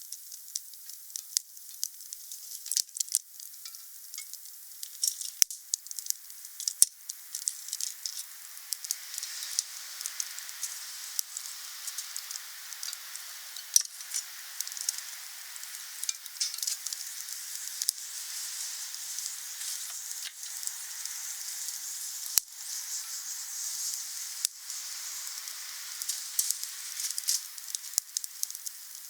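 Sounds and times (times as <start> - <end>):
bonfire crackling and popping: 0.0 - 29.0.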